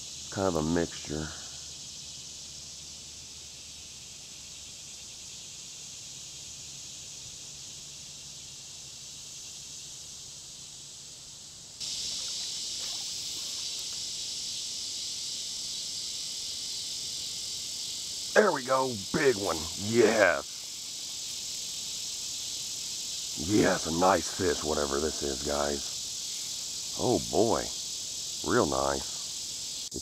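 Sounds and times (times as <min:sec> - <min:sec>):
high buzzing insect chorus: 0:00.0 - 0:30.0.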